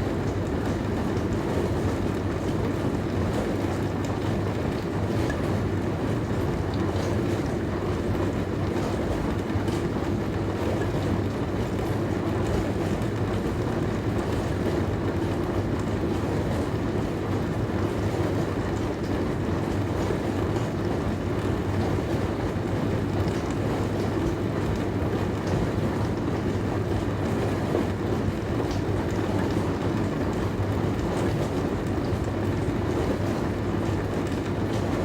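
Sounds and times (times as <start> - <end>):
dishwasher motor hum: 0.0 - 35.0.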